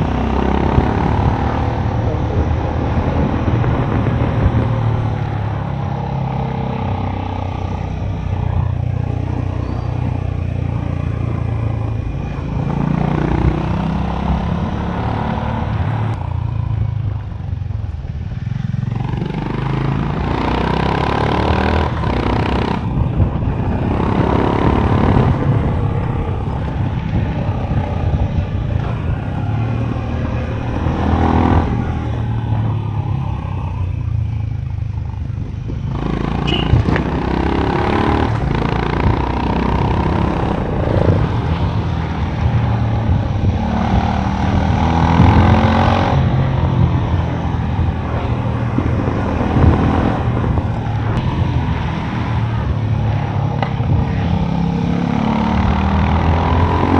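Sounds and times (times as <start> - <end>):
motorcycle engine: 0.0 - 56.9.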